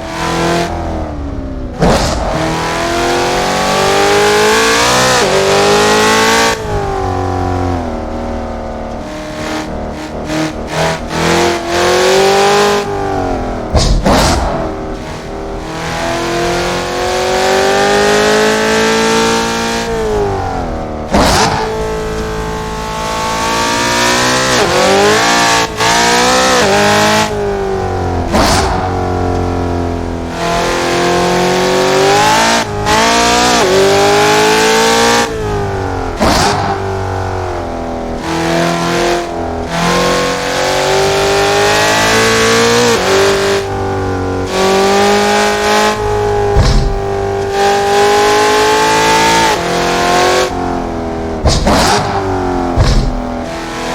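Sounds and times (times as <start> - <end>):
car engine revving through gears: 0.0 - 53.9.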